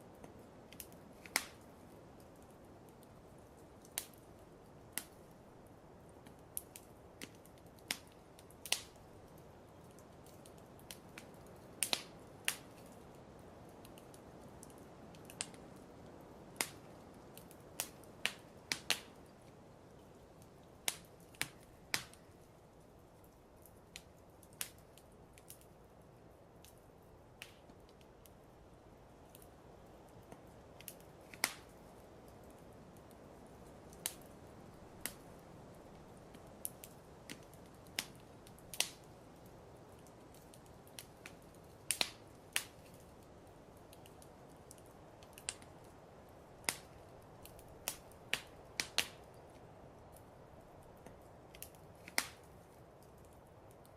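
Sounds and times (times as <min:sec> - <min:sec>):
fire crackling and popping: 0:00.0 - 0:53.9
soft steady hiss: 0:00.0 - 0:53.9.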